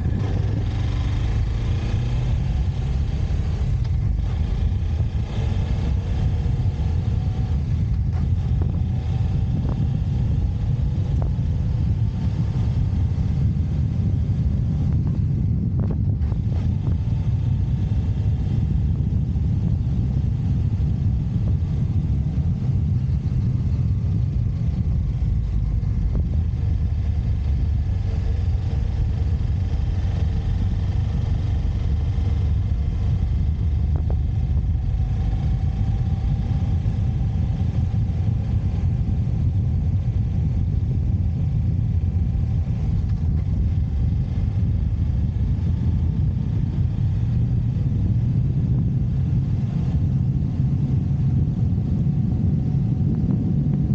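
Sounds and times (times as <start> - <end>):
motorcycle engine rumble: 0.0 - 53.9
road noise: 0.0 - 53.9.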